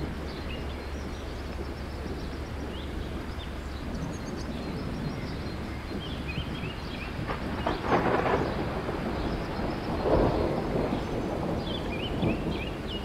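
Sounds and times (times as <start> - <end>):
distant thunder: 0.0 - 13.0
low rumble of wind: 0.0 - 13.0.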